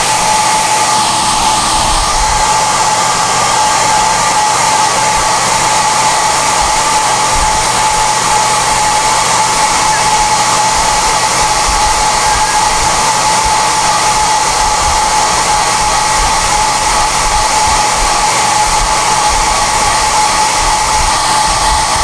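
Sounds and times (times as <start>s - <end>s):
hair dryer blowing and whining: 0.0s - 22.0s.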